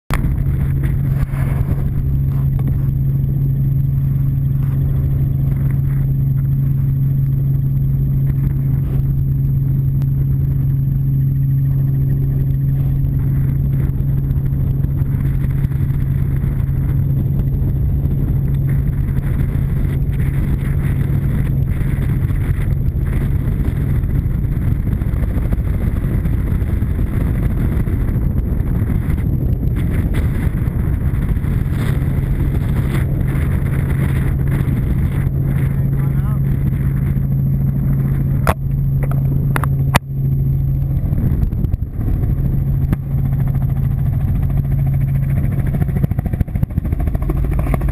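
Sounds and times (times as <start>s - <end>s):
helicopter engine and rotor drone: 0.1s - 47.9s
rough rushing noise: 0.1s - 47.9s.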